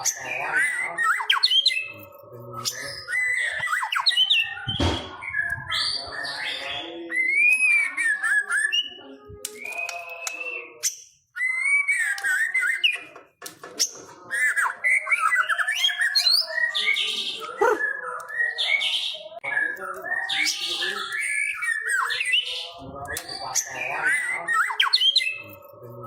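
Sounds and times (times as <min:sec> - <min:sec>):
songbird whistling and chattering: 0:00.0 - 0:13.2, 0:13.8 - 0:26.0.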